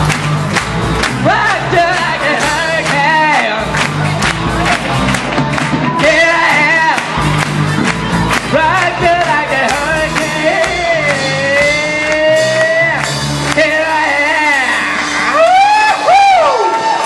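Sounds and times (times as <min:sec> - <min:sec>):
hard rock band playing: 0:00.0 - 0:16.3
drums: 0:00.0 - 0:17.0.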